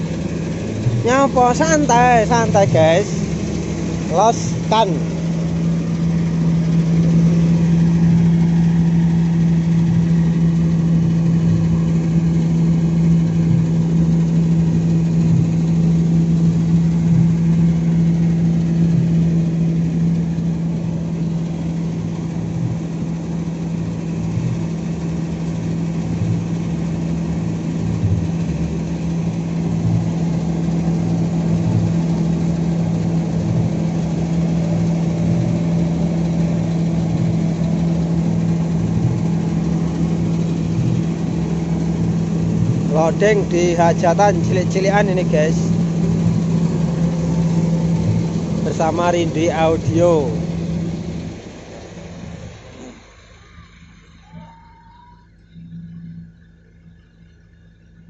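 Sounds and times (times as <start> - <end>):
generator engine hum: 0.0 - 58.0.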